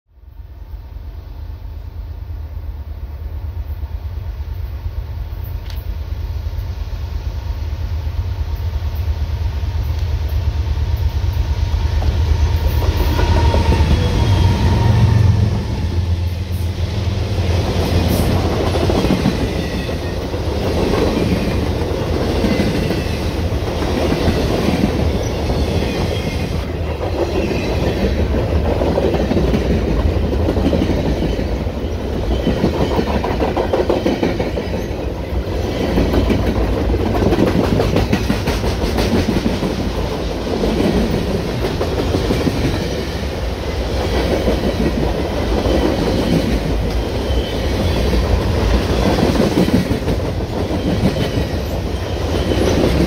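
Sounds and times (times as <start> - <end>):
train wheels clickety-clack: 9.8 - 53.0.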